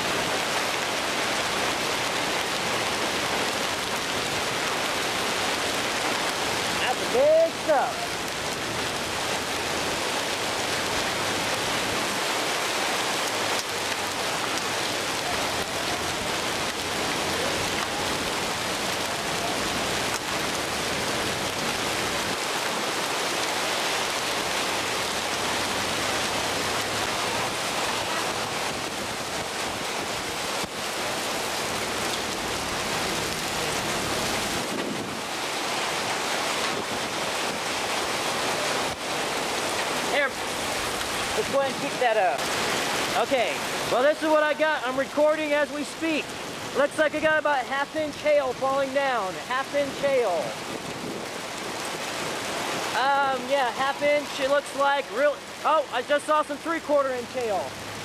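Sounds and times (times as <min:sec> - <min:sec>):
hail and rain pelting a car: 0:00.0 - 0:48.3.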